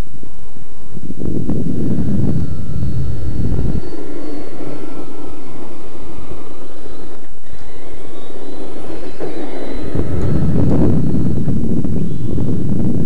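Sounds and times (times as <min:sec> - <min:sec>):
electric motor and gear whine: 0:00.0 - 0:13.0
rattling noise: 0:01.4 - 0:12.7.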